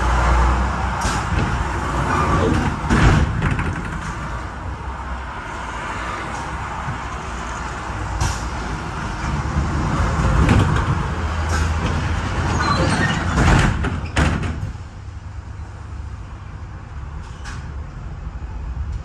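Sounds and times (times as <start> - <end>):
tram running hum and rattle: 0.0 - 19.0.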